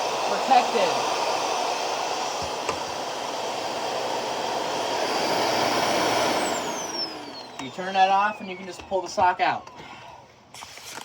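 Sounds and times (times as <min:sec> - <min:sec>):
vacuum cleaner motor running: 0:00.0 - 0:10.2.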